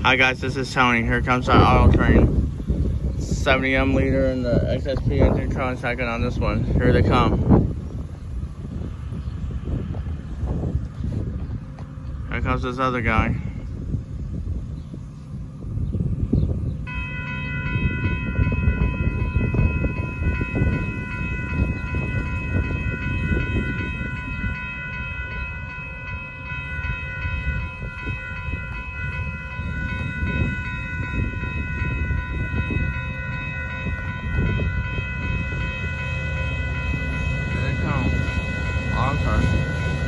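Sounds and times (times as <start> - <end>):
railroad crossing bell ringing: 0.0 - 9.2, 11.9 - 13.6, 16.8 - 40.0
continuous low rumble: 0.0 - 40.0.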